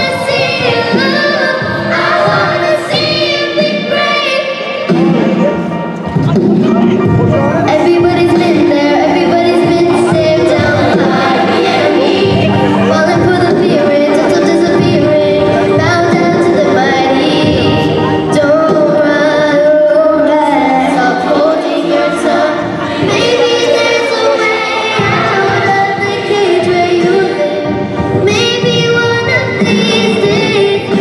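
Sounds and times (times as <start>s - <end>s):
girl singing into microphone: 0.0s - 5.4s, 7.6s - 31.0s
instrumental accompaniment: 0.0s - 31.0s.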